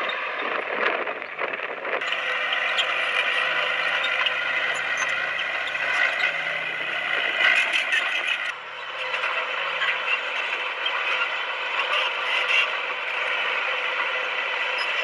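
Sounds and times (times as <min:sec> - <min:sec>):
bulldozer engine working: 0:00.0 - 0:15.0.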